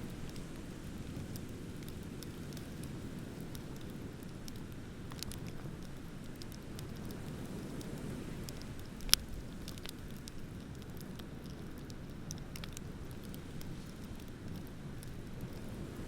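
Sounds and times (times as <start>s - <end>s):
wood bonfire crackling: 0.0s - 16.0s.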